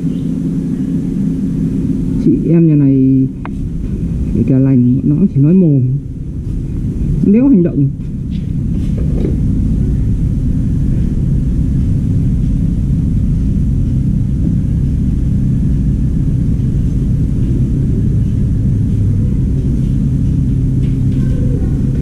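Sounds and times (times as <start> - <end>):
machine humming and rumbling: 0.0 - 22.0.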